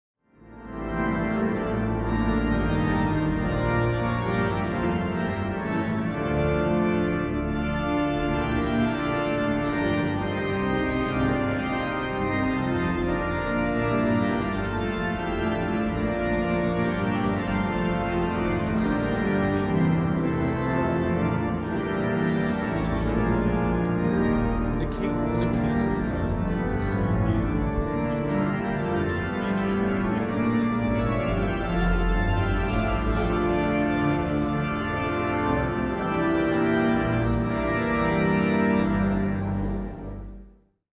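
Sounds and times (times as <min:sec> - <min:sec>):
organ chords over deep bass: 0:00.4 - 0:40.5.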